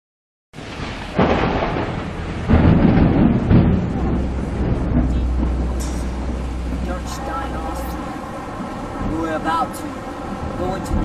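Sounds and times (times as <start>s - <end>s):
thunder crashes: 0.6s - 11.0s
thunder rumbling: 0.6s - 11.0s.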